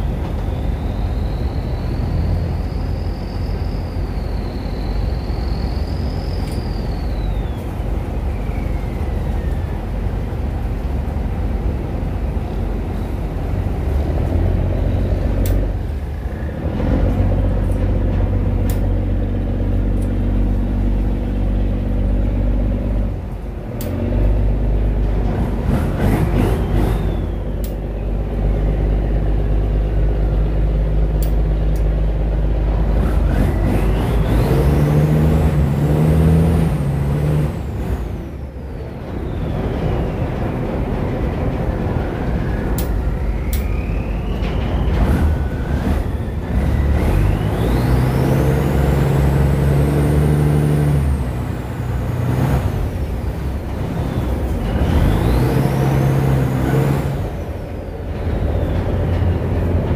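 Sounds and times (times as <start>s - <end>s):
high engine whine: 0.0s - 59.9s.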